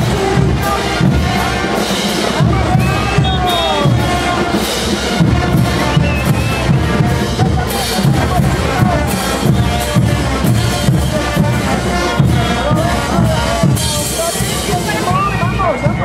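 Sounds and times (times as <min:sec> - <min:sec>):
bass drum beat: 0:00.0 - 0:16.0
brass band playing: 0:00.0 - 0:16.0.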